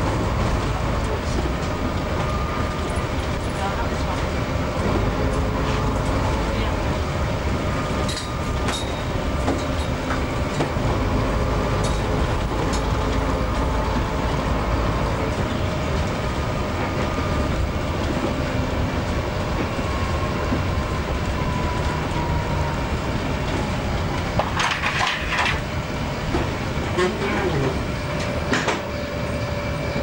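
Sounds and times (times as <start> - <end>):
bus engine and road noise: 0.0 - 30.0.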